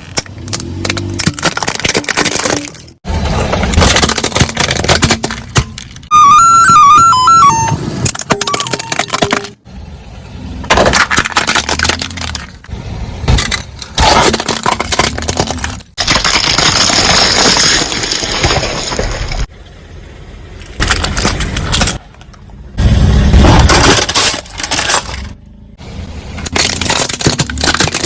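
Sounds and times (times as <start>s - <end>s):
objects crunching under car tyres: 0.0s - 9.7s, 10.6s - 19.5s, 20.6s - 22.6s, 23.2s - 28.0s.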